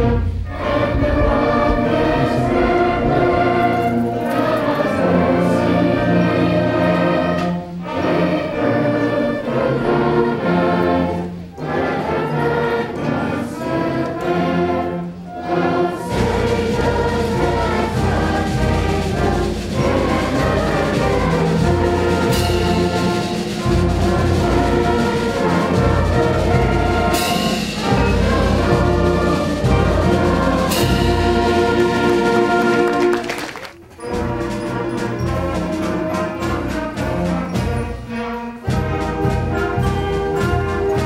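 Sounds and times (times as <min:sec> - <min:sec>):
concert band playing chords: 0:00.0 - 0:41.0.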